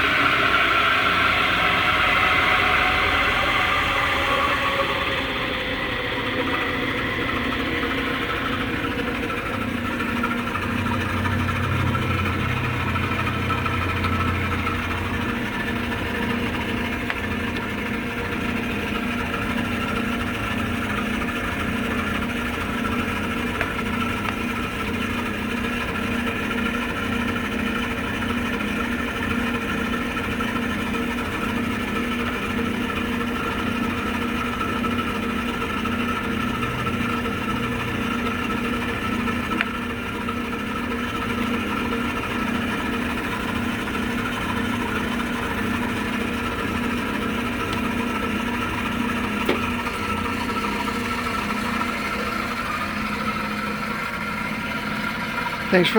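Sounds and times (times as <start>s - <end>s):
deeper hum: 0.0s - 55.9s
metal lathe humming: 0.0s - 55.9s.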